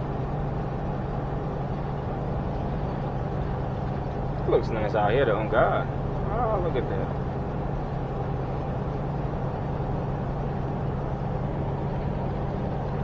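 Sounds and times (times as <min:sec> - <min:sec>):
road noise inside cab: 0:00.0 - 0:13.0
truck engine drone: 0:00.0 - 0:13.0.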